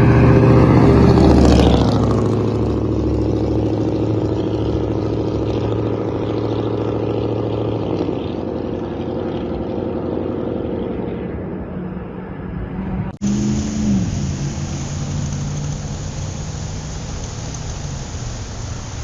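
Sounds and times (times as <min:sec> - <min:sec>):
truck engine drone: 0:00.0 - 0:19.0.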